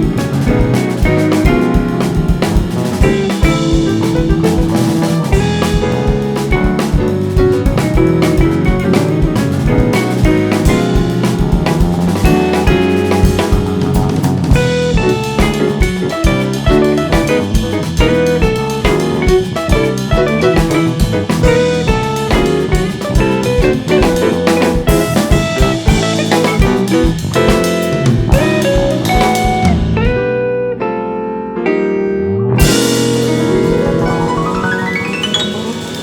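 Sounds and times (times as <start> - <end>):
drum kit: 0.0 - 31.8, 32.5 - 36.0
bass guitar: 0.0 - 36.0
electric guitar: 0.0 - 36.0.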